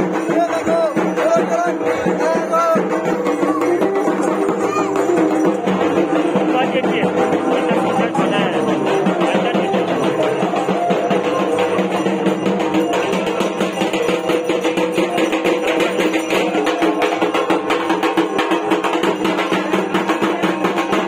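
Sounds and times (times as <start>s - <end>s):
barrel drum beaten with sticks: 0.0s - 21.0s
steady ringing tones: 0.0s - 21.0s.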